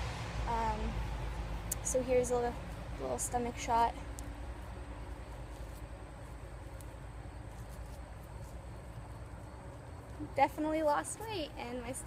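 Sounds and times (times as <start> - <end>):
low steady rumble: 0.0 - 12.0
insects chirping: 0.6 - 12.0.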